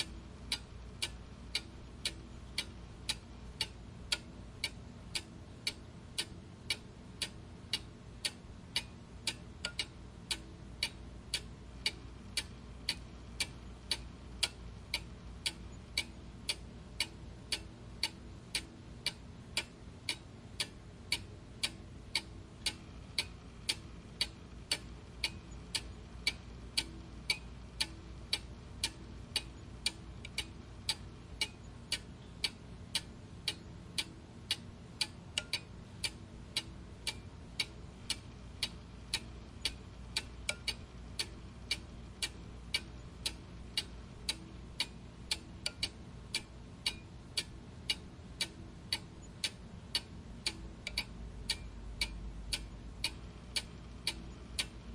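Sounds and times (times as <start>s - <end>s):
clock ticking: 0.0s - 54.9s.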